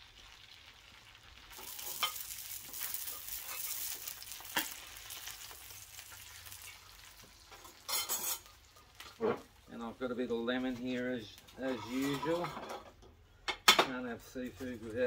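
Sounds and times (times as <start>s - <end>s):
seafood sizzling on hotplate: 0.0s - 12.8s.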